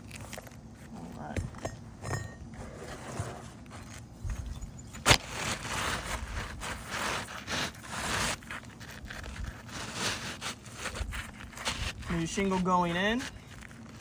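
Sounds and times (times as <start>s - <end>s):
roof shingles scraping: 2.5s - 14.0s.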